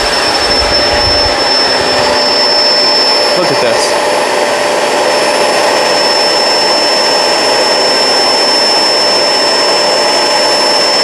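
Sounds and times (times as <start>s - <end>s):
upright vacuum running on carpet: 0.0s - 11.0s.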